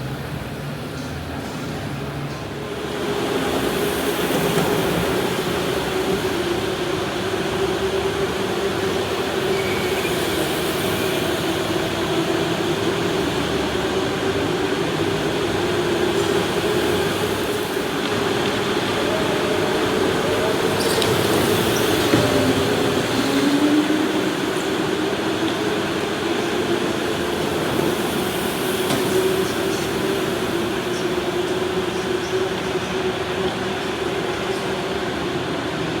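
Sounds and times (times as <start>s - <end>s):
rolling and wind noise: 0.0s - 36.0s
electric go-kart motor whining: 2.7s - 35.5s.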